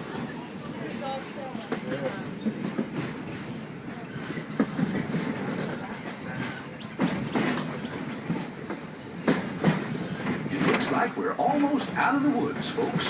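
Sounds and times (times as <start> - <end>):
train cars rumbling on track: 0.0 - 13.0.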